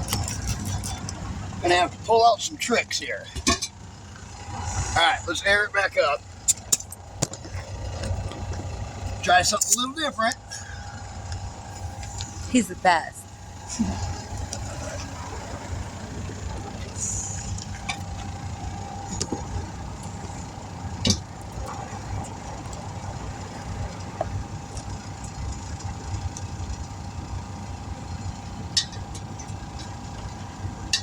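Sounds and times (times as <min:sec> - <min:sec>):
motor hum with whine: 0:00.0 - 0:31.0.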